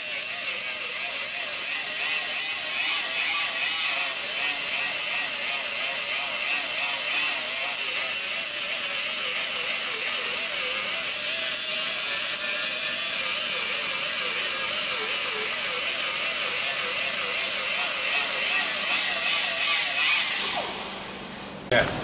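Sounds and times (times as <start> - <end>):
pneumatic tool hissing and whining: 0.0 - 21.0.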